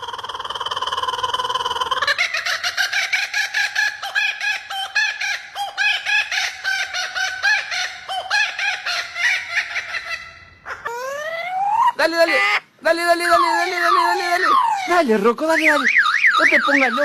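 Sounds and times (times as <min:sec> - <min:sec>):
bird repeating short calls: 0:00.0 - 0:17.0.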